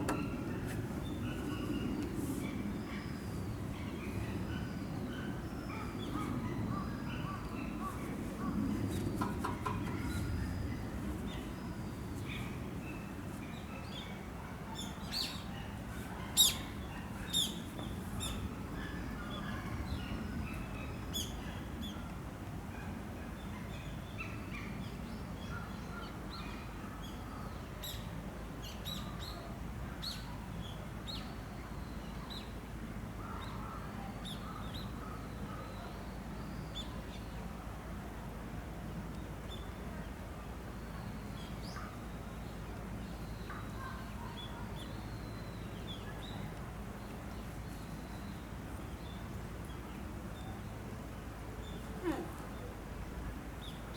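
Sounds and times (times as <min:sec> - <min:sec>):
low outdoor background: 0:00.0 - 0:53.9.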